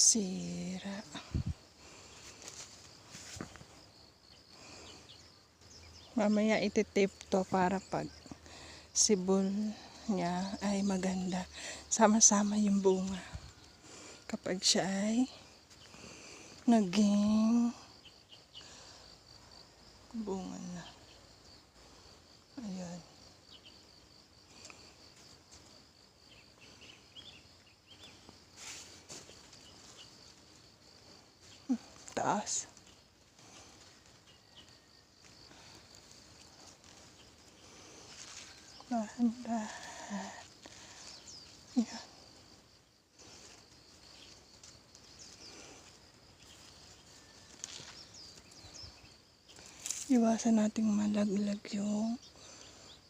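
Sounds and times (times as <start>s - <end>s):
faint insect trilling: 0.0s - 53.0s
small birds chirping: 0.1s - 53.0s.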